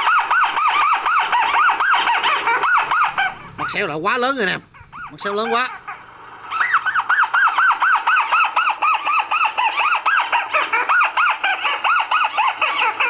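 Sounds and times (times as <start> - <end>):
recorded bird call through speaker: 0.0 - 13.0.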